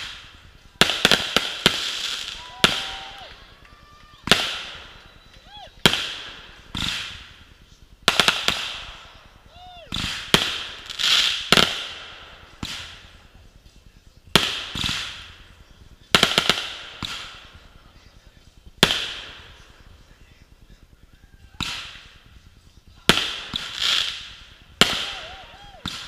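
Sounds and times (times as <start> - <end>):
crackling hiss of fireworks: 0.0 - 26.0
fireworks bangs: 0.0 - 26.0.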